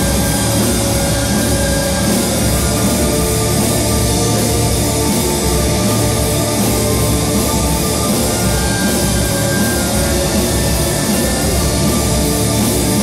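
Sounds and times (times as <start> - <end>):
folk-metal band with orchestra: 0.0 - 13.0.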